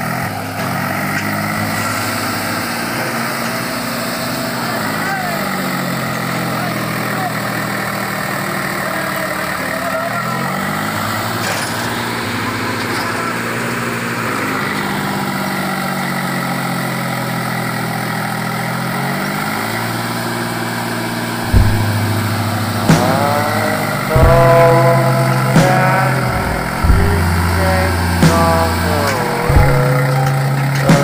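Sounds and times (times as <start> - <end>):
tractor diesel engine straining: 0.0 - 31.0.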